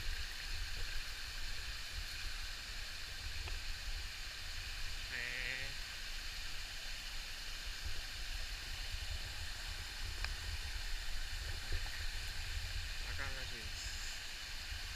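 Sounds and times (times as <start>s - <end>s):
water rushing over rocks: 0.0s - 14.9s.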